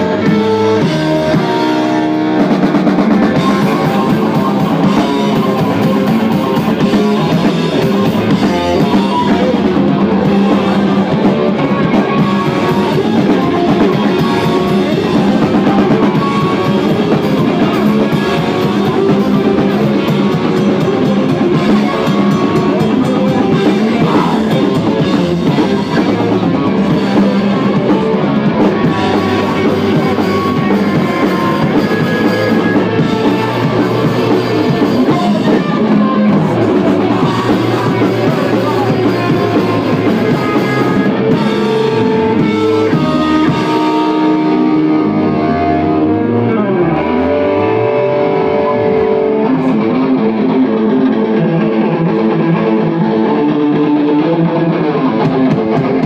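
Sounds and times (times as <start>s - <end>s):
drum kit pounding: 0.0s - 56.0s
electric guitar: 0.0s - 56.0s.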